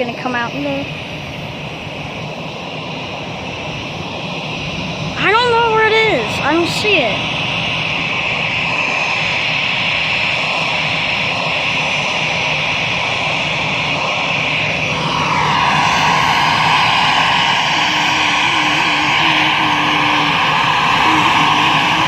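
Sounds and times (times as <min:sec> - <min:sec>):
high whine gliding down: 0:00.0 - 0:22.0
jet airliner engines: 0:00.0 - 0:22.0.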